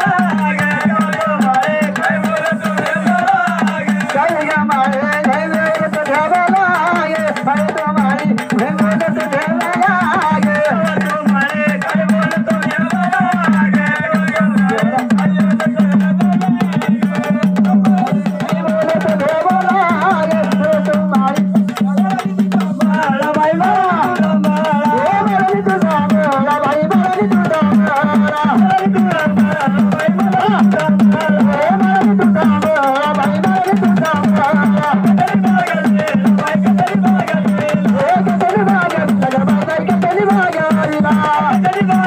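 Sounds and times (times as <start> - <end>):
fast folk drumming: 0.0 - 42.0.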